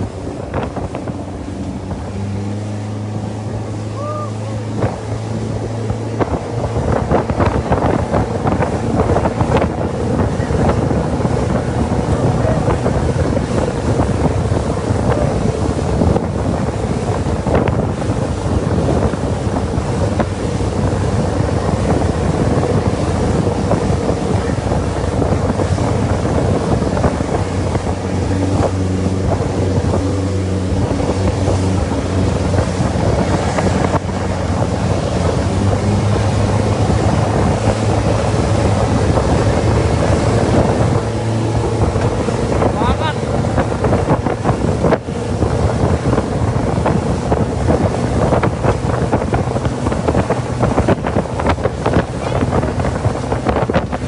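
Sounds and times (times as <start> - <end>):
motorboat engine running: 0.0 - 54.0
water rushing past: 0.0 - 54.0
wind buffeting microphone: 0.0 - 54.0.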